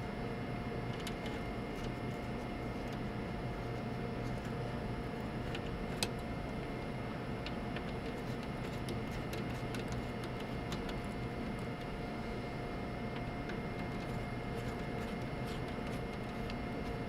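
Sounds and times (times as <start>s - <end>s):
steady hum with faint whine: 0.0s - 17.0s.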